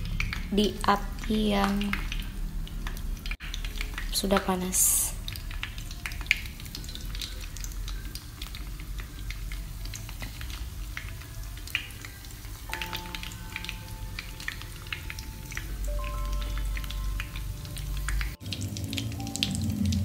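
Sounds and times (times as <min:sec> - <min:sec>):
oil sizzling and crackling: 0:00.0 - 0:20.0
soft background music: 0:00.0 - 0:20.0.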